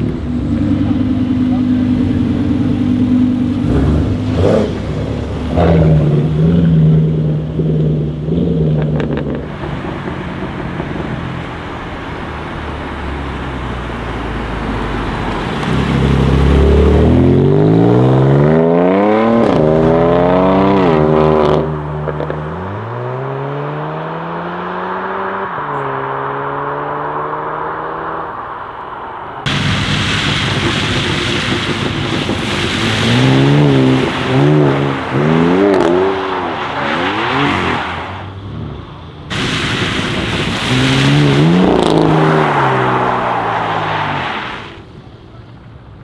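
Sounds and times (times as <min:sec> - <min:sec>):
car engine revving with crackles: 0:00.0 - 0:46.0.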